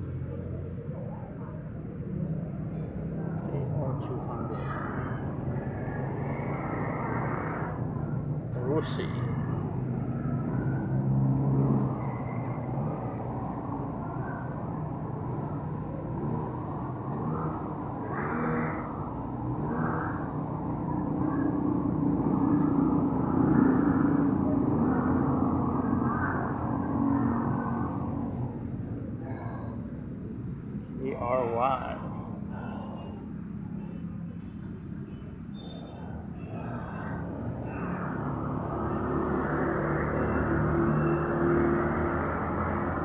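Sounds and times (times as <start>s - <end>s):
vehicle engines passing: 0.0s - 43.0s.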